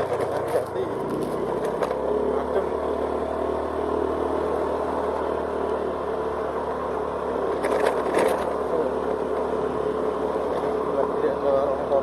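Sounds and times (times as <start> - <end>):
scooter engine running: 0.0 - 12.0
wind and road noise: 0.0 - 12.0.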